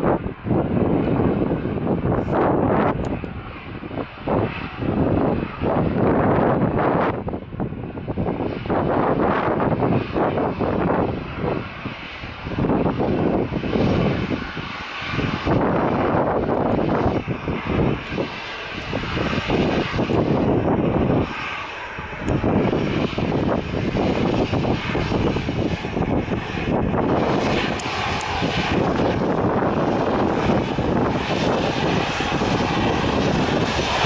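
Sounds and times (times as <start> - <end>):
aircraft engine: 0.0 - 34.0
wind buffeting microphone: 0.0 - 34.0.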